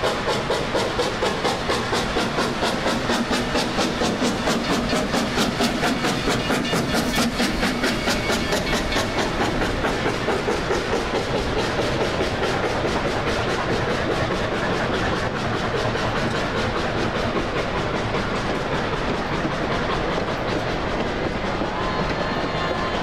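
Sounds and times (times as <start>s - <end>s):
steam locomotive exhaust chuffing: 0.0s - 23.0s.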